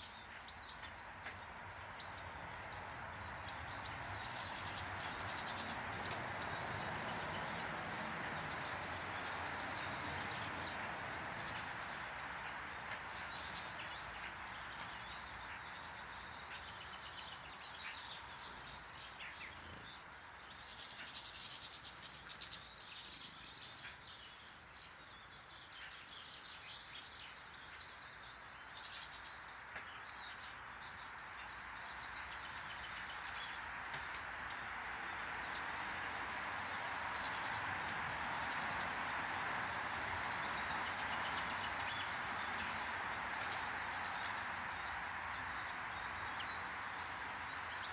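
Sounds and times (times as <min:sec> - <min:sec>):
small birds chirping and trilling: 0:00.0 - 0:47.9.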